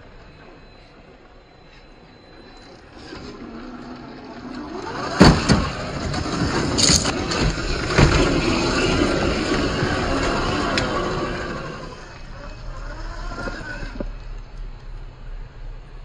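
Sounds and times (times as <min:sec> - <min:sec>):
electric motor whining: 0:00.0 - 0:14.7.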